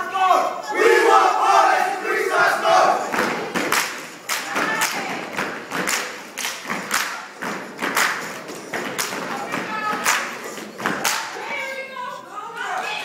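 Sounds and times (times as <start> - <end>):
stomps and claps in rhythm: 0.8 - 11.6.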